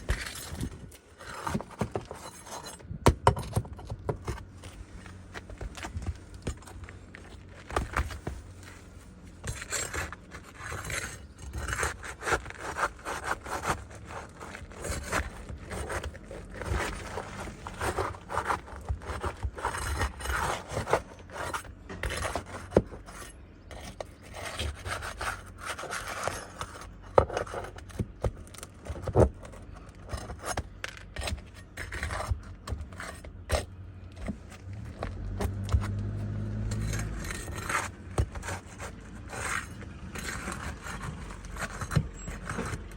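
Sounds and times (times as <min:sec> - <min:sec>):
scraping against roof shingles: 0:03.8 - 0:42.9.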